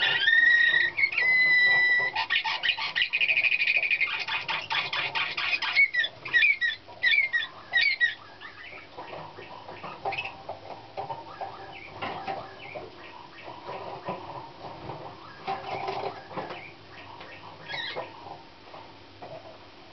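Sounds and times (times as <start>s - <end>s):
faint bird chirps: 0.0s - 10.5s, 11.1s - 14.4s, 15.2s - 18.4s
canary singing: 0.0s - 18.5s.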